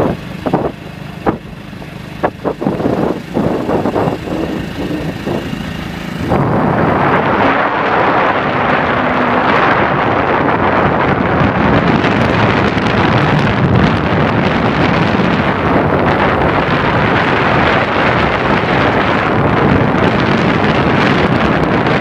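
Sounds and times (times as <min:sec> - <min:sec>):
faint engine-like hum: 0:00.0 - 0:21.9
wind rushing on microphone: 0:00.0 - 0:22.0.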